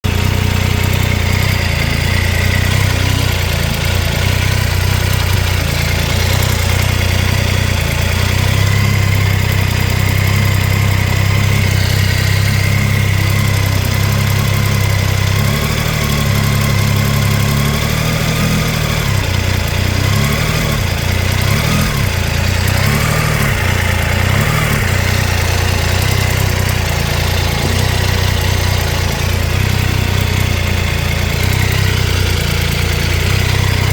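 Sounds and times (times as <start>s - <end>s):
engine ticking noise: 0.0s - 33.9s
motorcycle engine idling: 0.0s - 33.9s.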